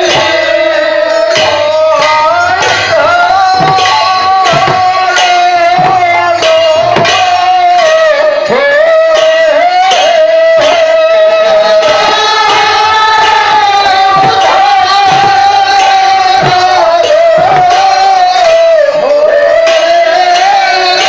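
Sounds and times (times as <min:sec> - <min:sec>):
group of voices singing: 0:00.0 - 0:21.0
hand drums playing: 0:00.0 - 0:21.0.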